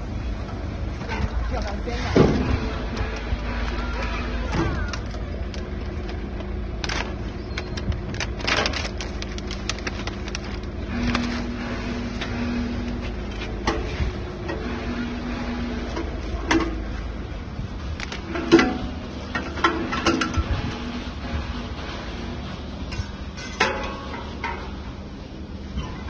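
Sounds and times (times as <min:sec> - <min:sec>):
machine rumble and hum: 0:00.0 - 0:26.0.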